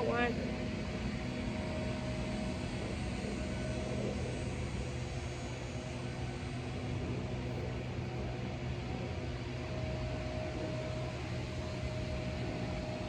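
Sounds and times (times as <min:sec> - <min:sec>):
faint steady tone: 0:00.0 - 0:13.0.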